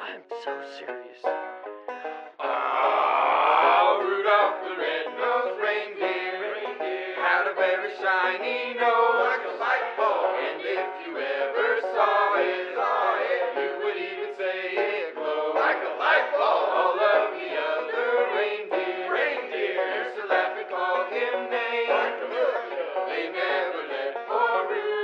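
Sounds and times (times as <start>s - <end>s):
voices singing a christmas song: 0.0s - 1.3s, 2.0s - 25.0s.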